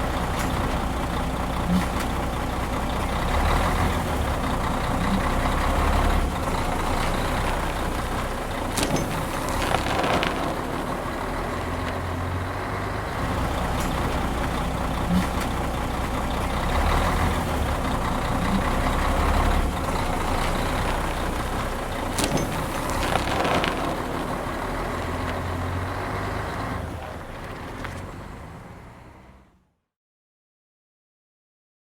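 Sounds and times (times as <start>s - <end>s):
heavy truck engine running: 0.0s - 29.6s.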